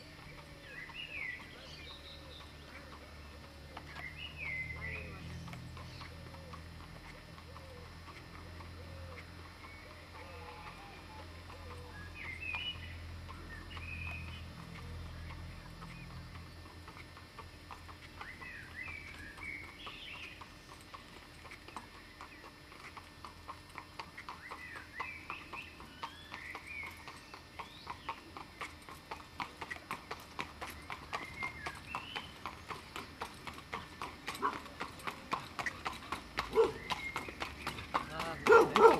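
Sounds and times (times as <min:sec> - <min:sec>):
birds chirping: 0:00.0 - 0:38.9
horse hooves clip-clopping on gravel: 0:00.0 - 0:38.9.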